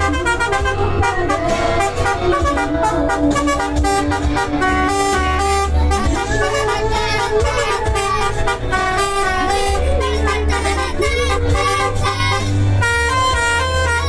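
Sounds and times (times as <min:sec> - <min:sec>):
multi-tone air horn melody: 0:00.0 - 0:14.0
vehicle engine rumble: 0:00.0 - 0:14.0.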